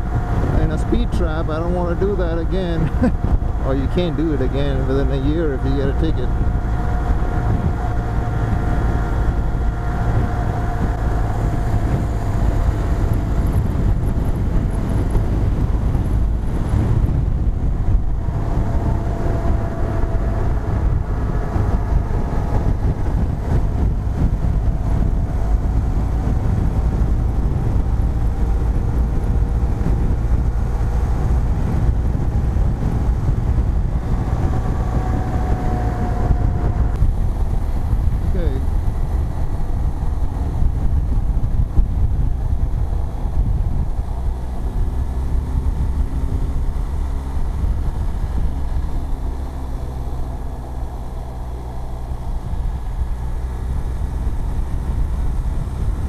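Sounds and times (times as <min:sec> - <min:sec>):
motorcycle engine droning: 0:00.0 - 0:56.0
wind rumble on microphone: 0:00.0 - 0:56.0.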